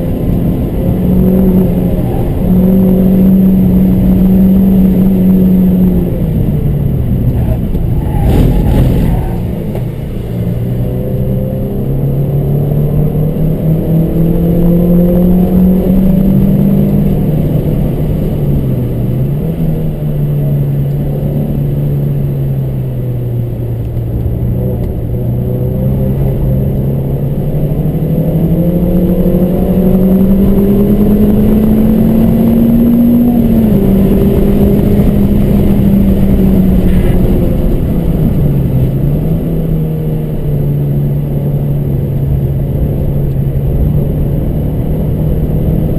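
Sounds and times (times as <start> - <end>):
car engine running hard: 0.0 - 45.9
road and tyre noise: 0.0 - 45.9.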